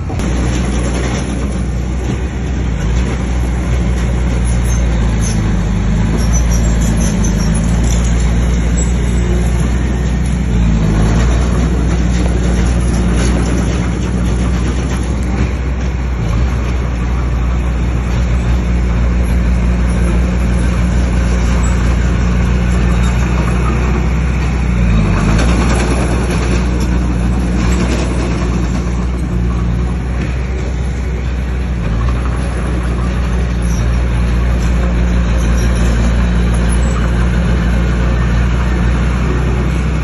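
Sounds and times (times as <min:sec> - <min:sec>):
bulldozer diesel engine under load: 0:00.0 - 0:40.0
clatter and grind of tracks: 0:00.0 - 0:40.0.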